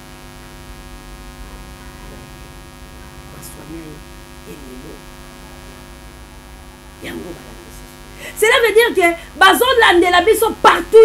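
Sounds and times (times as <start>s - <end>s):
electrical hum with buzzing overtones: 0.0s - 11.0s.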